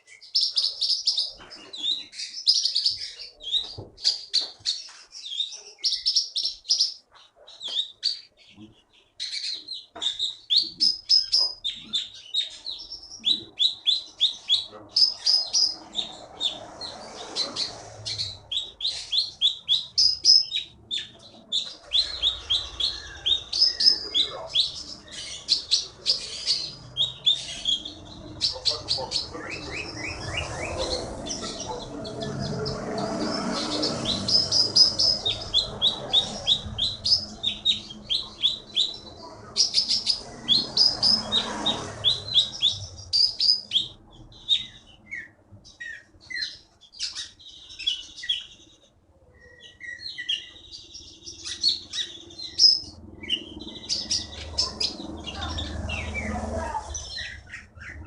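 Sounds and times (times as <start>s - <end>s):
songbird chirping and trilling: 0.0s - 58.0s.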